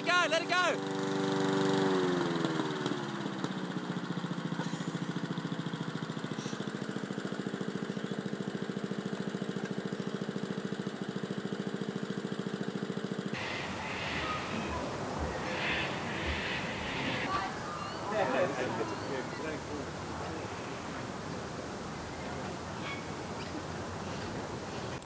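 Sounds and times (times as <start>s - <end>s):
lawn mower engine idling: 0.8s - 25.0s.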